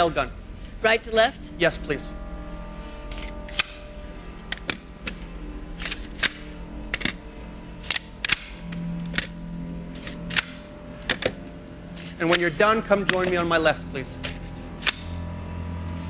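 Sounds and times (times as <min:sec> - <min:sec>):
background music with low notes: 0:00.0 - 0:16.0.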